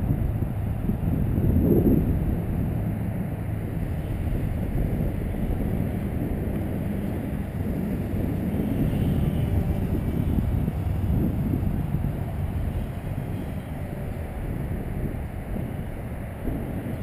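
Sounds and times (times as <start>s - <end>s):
electric motor and propeller whine: 0.0s - 17.0s
wind buffeting microphone: 0.0s - 17.0s.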